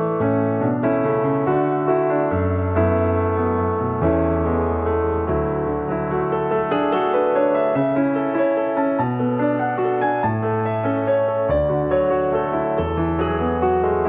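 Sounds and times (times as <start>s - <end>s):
piano melody over bass notes: 0.0s - 14.0s.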